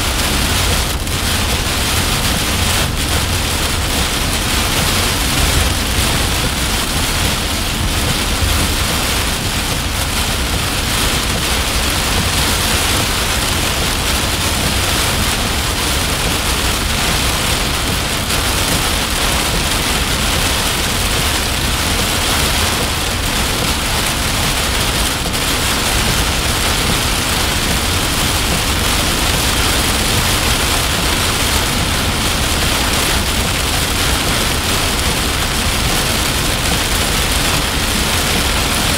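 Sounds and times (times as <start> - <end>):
heavy rain on car windshield: 0.0 - 38.9.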